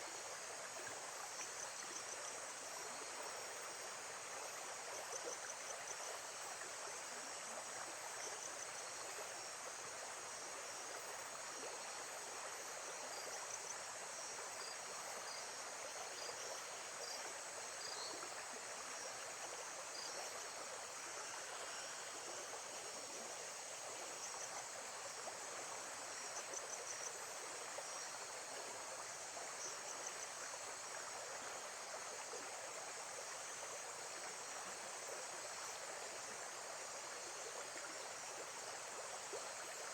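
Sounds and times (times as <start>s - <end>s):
insects chirping: 0.1s - 39.9s.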